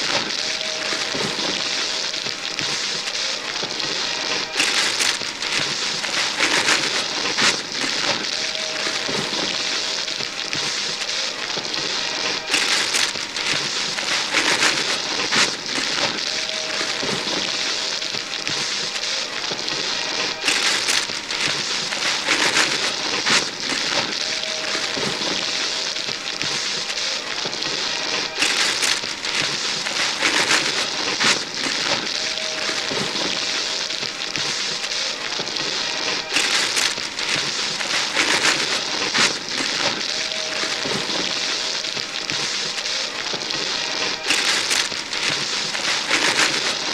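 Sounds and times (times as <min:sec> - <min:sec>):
wrapping paper ripping: 0:00.0 - 0:46.9.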